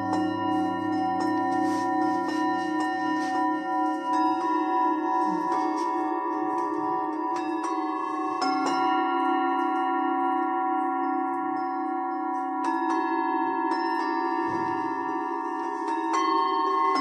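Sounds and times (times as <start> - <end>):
singing bowls ringing: 0.0 - 17.0.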